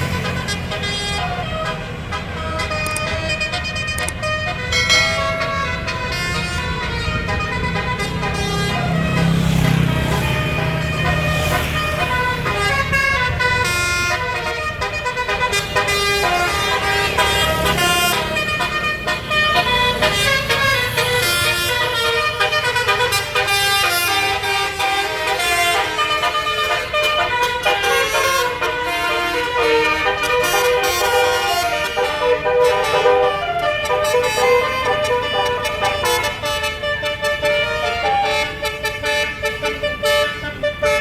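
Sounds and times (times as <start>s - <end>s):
bus engine rumbling: 0.0s - 41.0s
multi-trumpet air horn tune: 0.0s - 41.0s.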